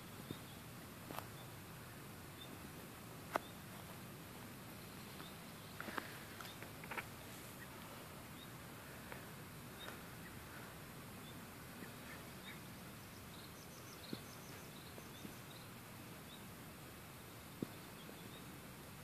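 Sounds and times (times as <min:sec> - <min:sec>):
small birds chirping: 0:00.0 - 0:19.0
steady hiss: 0:00.0 - 0:19.0.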